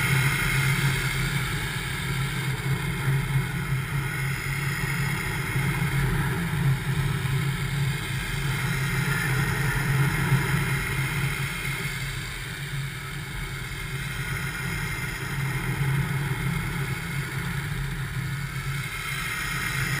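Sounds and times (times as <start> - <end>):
paramotor engine and propeller: 0.0 - 20.0.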